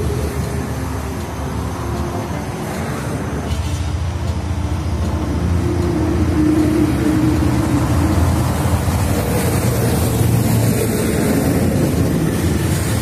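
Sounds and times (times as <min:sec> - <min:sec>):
passing vehicle rumble: 0:00.0 - 0:13.0.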